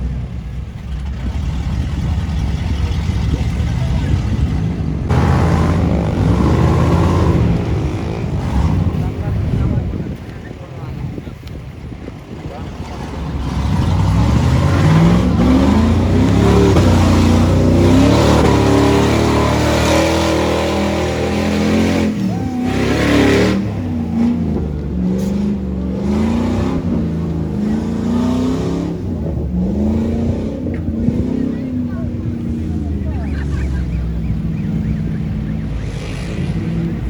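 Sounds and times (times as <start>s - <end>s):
engine revving hard: 1.0s - 9.9s, 12.6s - 37.0s.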